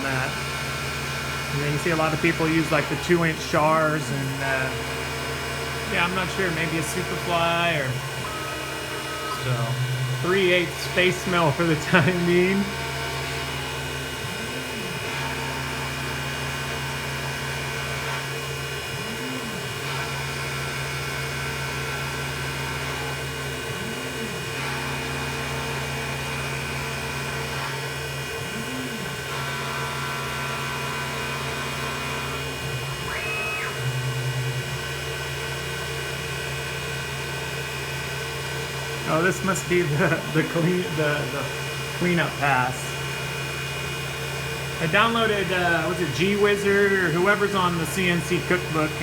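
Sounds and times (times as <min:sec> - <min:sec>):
milling machine motor hum: 0:00.0 - 0:49.0
rising and falling whine: 0:00.0 - 0:49.0.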